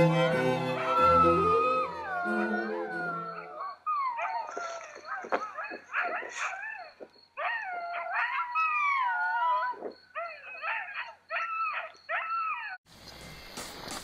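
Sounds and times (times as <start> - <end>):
dog howling and yelping: 0.8 - 12.8.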